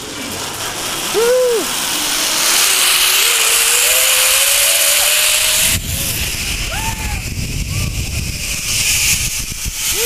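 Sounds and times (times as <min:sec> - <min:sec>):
low wind rumble: 0:00.0 - 0:10.0
zipline pulleys whirring: 0:00.0 - 0:10.0.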